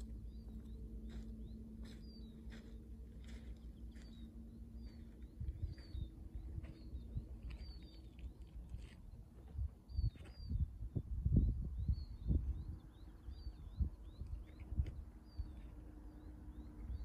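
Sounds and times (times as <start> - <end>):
faint steady hum: 0.0 - 17.0
low outdoor rumble: 0.0 - 17.0
small songbirds chirping: 0.0 - 17.0.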